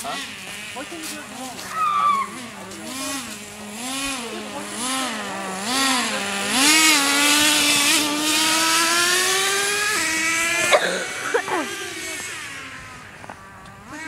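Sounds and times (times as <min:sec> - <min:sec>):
small two-stroke engine revving: 0:00.0 - 0:14.0.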